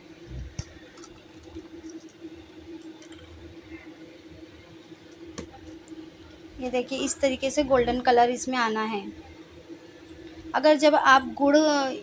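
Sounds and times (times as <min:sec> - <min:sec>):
low hum: 0:00.0 - 0:11.1.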